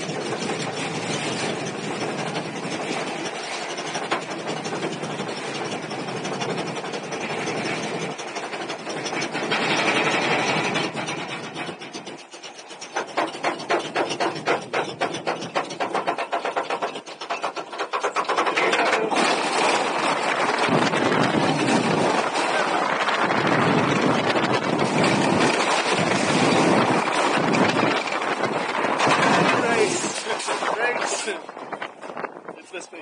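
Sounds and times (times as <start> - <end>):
roller coaster lift clatter: 0.0 - 33.0
roller coaster regular clicks: 0.0 - 33.0.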